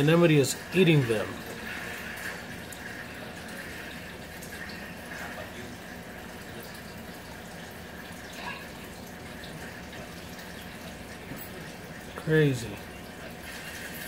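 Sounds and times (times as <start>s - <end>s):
water trickling and rushing: 0.0s - 14.0s.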